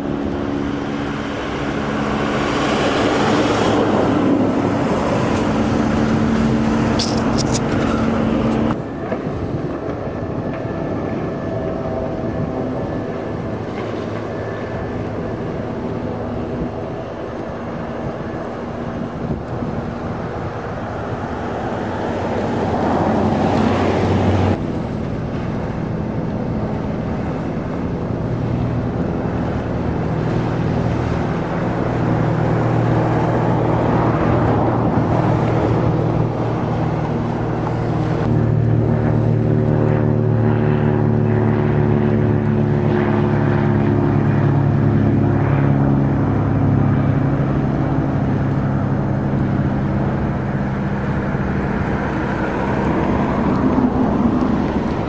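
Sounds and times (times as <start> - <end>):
deep boat engine hum: 0.0 - 55.0
outboard motors running fast: 0.0 - 55.0.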